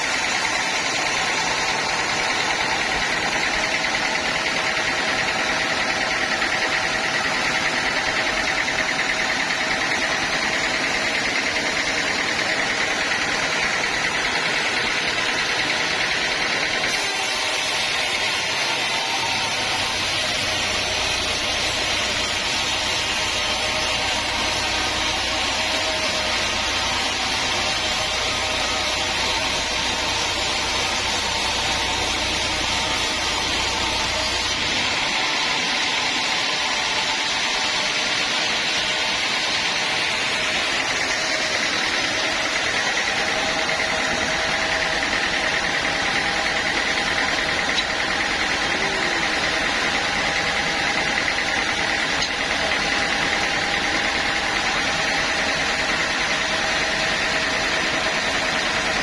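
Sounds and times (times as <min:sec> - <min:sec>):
high-pitched machine whine: 0:00.0 - 0:59.0
sawmill machinery running: 0:00.0 - 0:59.0.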